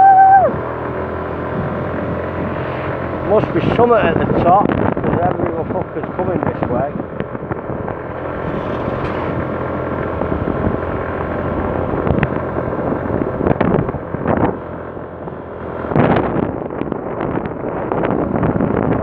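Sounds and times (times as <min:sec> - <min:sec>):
motorbike engine running: 0:00.0 - 0:19.0
wind buffeting microphone: 0:00.0 - 0:19.0.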